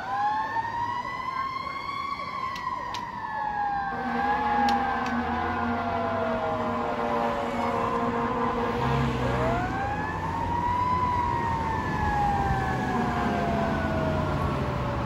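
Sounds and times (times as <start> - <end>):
fire engine siren wailing: 0.0 - 15.0
traffic and engine noise: 0.0 - 15.0.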